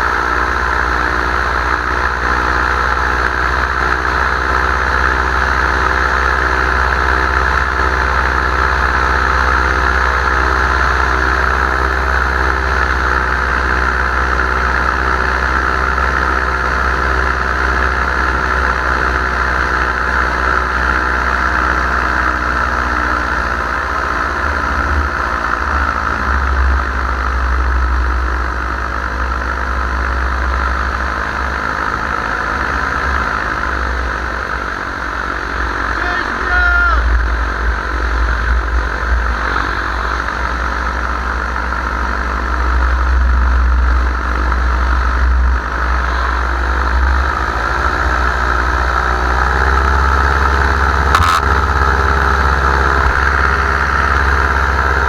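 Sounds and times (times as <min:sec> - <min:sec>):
low wind rumble: 0:00.0 - 0:55.0
paramotor engine and propeller: 0:00.0 - 0:55.0.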